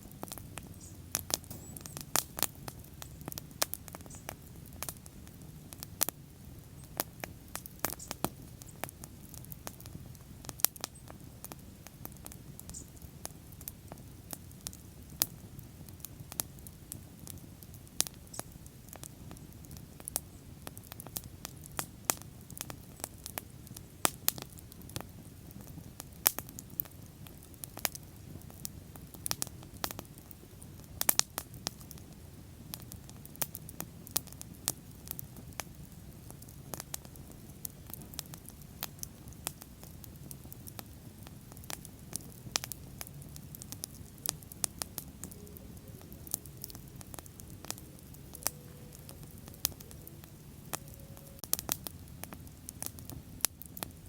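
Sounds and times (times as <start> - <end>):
bonfire crackling: 0.0 - 54.0.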